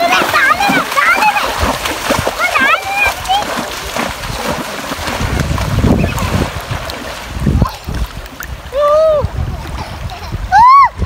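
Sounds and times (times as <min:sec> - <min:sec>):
river water lapping and splashing: 0:00.0 - 0:11.0
wind rumble on microphone: 0:01.5 - 0:11.0.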